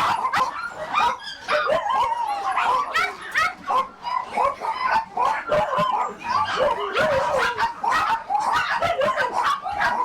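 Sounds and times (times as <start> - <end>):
dogs barking and yelping: 0.0 - 10.0.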